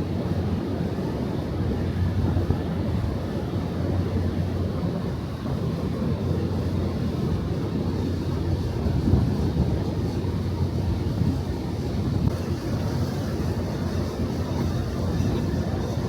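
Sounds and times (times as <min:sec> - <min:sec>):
ferry engines rumbling: 0:00.0 - 0:16.0
wind buffeting microphone: 0:00.0 - 0:16.0.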